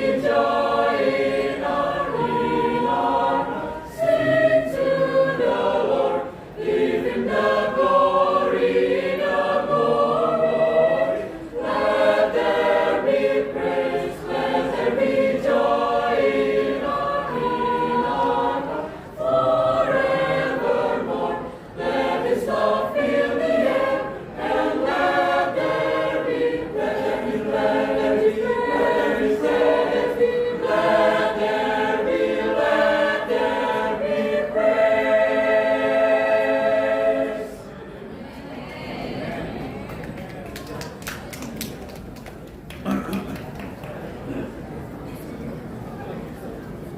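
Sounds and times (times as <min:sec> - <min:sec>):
church choir singing: 0:00.0 - 0:39.8.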